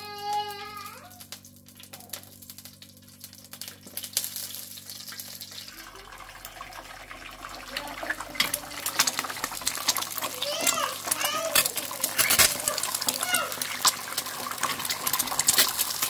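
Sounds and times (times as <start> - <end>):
water running and splashing: 2.6 - 16.0.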